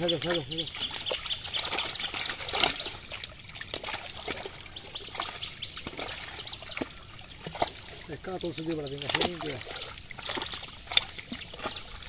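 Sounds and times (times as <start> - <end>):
fish splashing in shallow water: 0.0 - 12.0
water trickling: 0.0 - 12.0.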